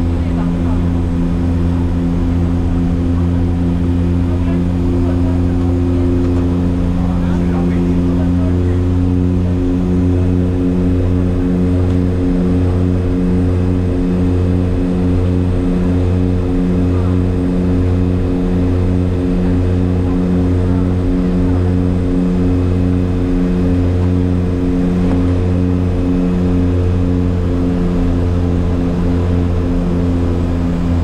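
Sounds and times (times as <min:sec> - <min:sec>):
propeller engine drone: 0:00.0 - 0:31.0.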